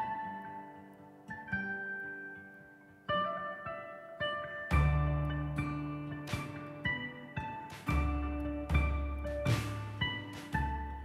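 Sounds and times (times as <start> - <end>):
instrumental background music: 1.6 - 11.0.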